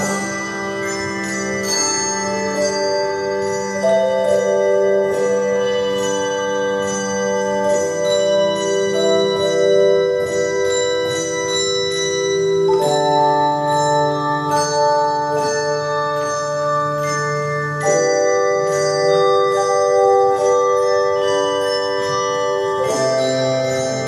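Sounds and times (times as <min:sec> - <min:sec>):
bell-like chords music: 0:00.0 - 0:24.0.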